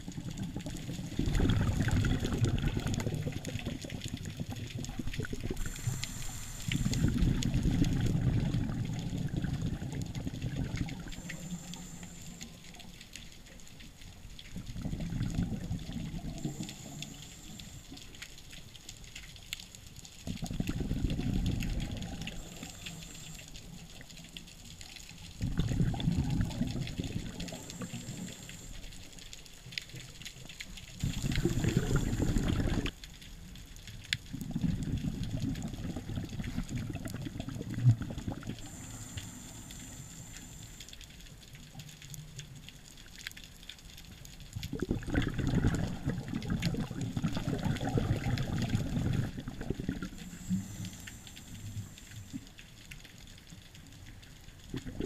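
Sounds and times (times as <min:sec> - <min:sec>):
underwater bubbles rumbling: 0:00.0 - 0:55.0.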